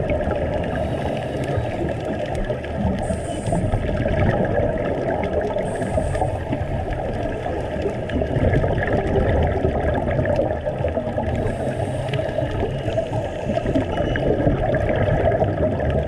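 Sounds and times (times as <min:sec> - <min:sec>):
faint steady tones: 0:00.0 - 0:08.6, 0:10.8 - 0:15.6
underwater rush of water and bubbles: 0:00.0 - 0:16.0.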